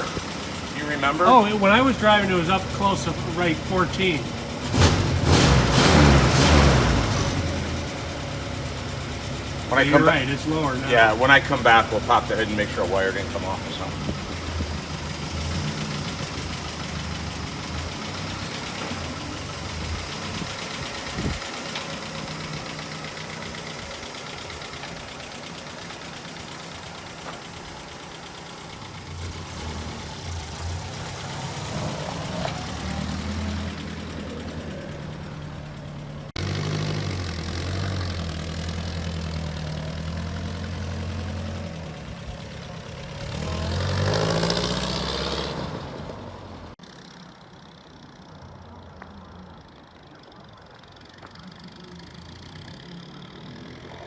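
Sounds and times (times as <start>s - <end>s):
car engine running: 0.0s - 45.5s.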